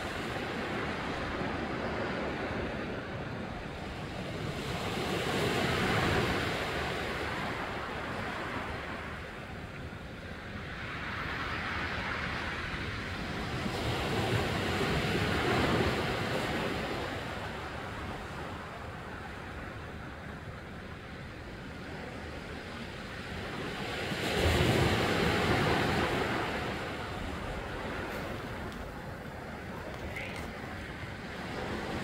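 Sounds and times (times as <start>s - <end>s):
waves on a rocky shore: 0.0s - 32.0s.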